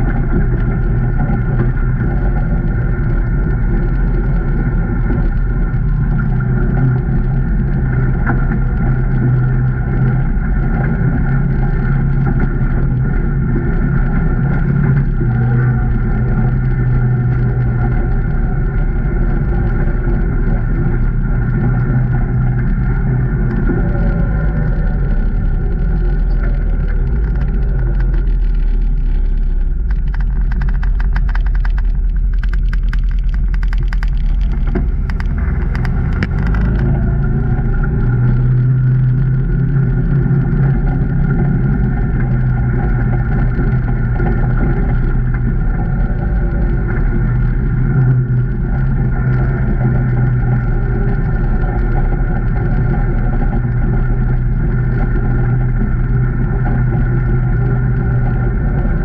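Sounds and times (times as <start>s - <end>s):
rapid clicking and ticking: 0.0s - 59.0s
side-by-side engine running: 0.0s - 59.0s.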